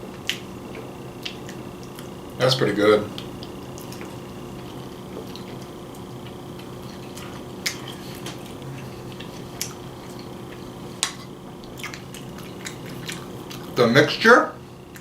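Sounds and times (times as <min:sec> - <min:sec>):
steady background hum: 0:00.0 - 0:15.0
wet mouth clicks chewing: 0:00.2 - 0:02.2, 0:03.2 - 0:13.8.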